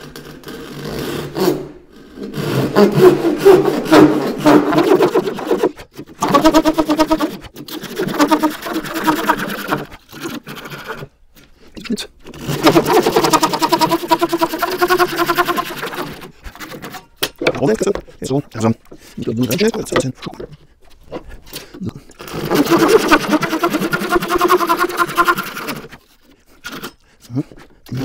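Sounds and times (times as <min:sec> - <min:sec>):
handsaw sawing board: 0:00.0 - 0:11.2, 0:12.2 - 0:20.1, 0:22.1 - 0:27.0.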